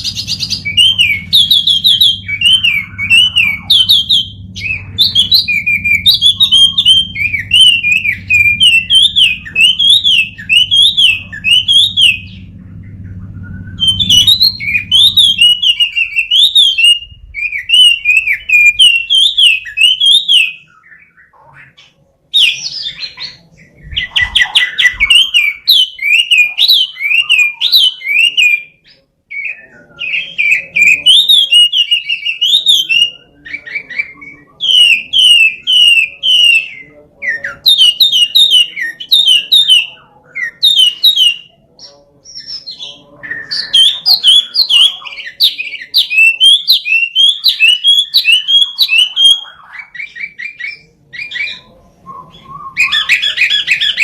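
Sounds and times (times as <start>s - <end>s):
bird singing whistled notes: 0.0s - 12.5s, 13.1s - 21.8s, 22.4s - 54.0s.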